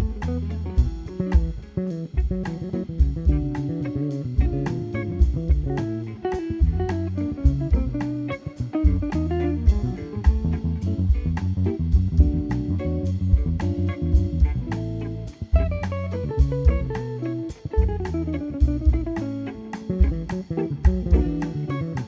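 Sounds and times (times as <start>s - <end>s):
jazz guitar playing: 0.0s - 22.0s
walking bass line: 0.0s - 22.0s.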